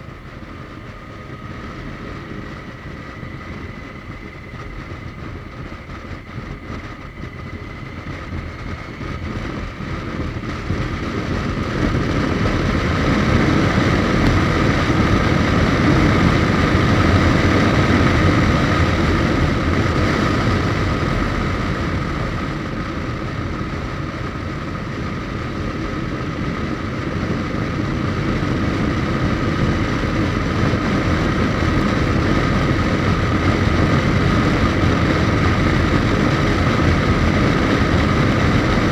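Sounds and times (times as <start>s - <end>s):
motorcycle engine: 0.0s - 38.9s
wind rush: 0.0s - 38.9s.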